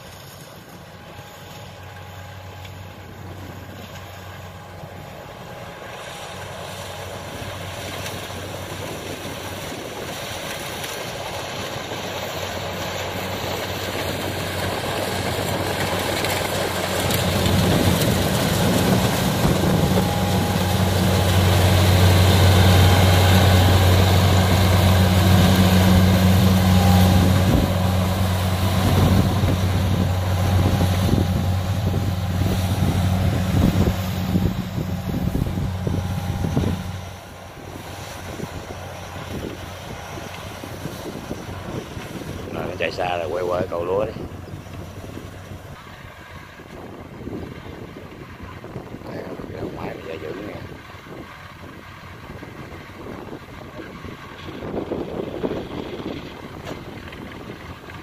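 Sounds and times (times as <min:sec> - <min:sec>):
combine harvester engine hum: 0:00.0 - 0:58.0
rushing mechanical noise: 0:00.0 - 0:58.0.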